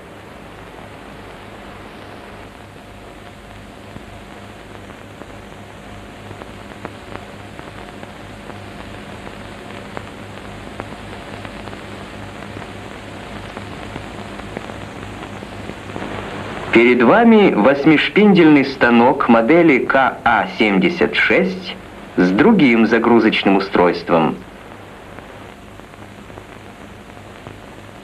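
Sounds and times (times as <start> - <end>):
film soundtrack hiss and hum: 0.0 - 28.0.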